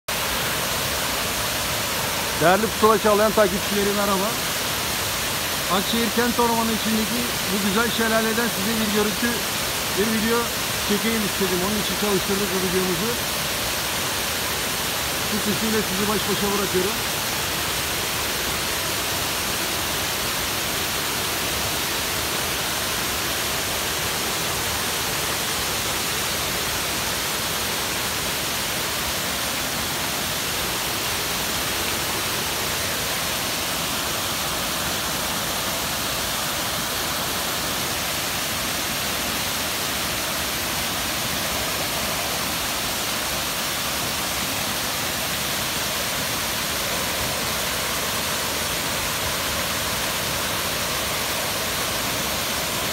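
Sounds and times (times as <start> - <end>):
small waterfall rushing: 0.0 - 52.9.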